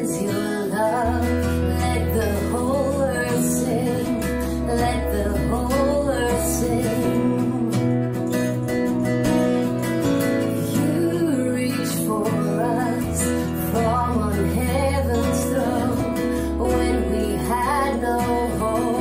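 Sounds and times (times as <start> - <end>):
strummed acoustic guitar: 0.0 - 19.0
woman singing: 0.0 - 19.0
low bass notes: 0.8 - 19.0.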